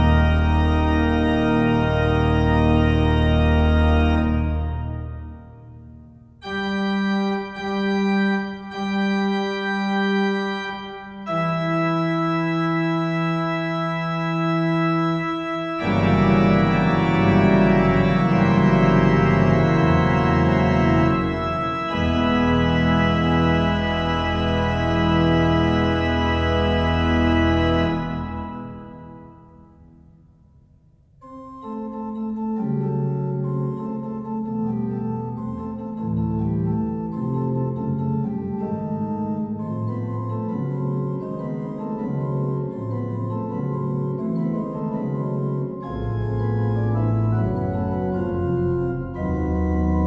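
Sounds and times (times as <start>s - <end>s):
pipe organ playing: 0.0s - 29.8s, 31.2s - 50.0s.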